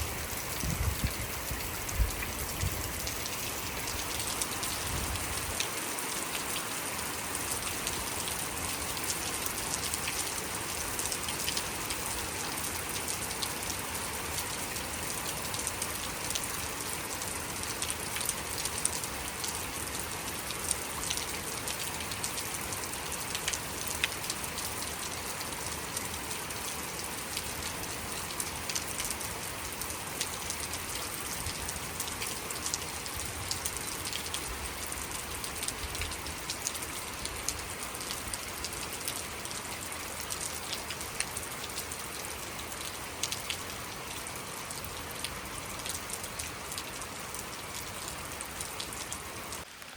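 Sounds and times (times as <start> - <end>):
raindrops ticking on hard surfaces: 0.0 - 49.9
steady rain hiss: 0.0 - 49.9.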